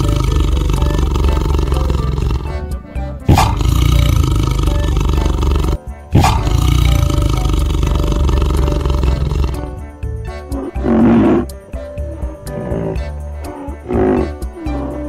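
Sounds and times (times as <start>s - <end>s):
background music: 0.0s - 15.0s
tiger growling and roaring: 0.0s - 15.0s.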